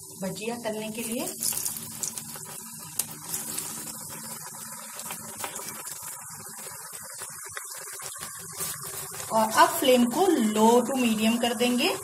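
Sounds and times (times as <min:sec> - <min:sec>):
batter deep-frying in oil: 0:00.0 - 0:12.0.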